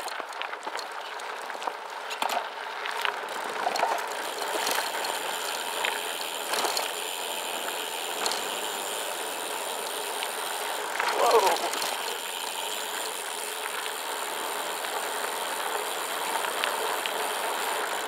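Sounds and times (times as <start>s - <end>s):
bike tyres crunching on gravel: 0.0s - 18.0s
stones and bike rattling: 0.0s - 18.0s.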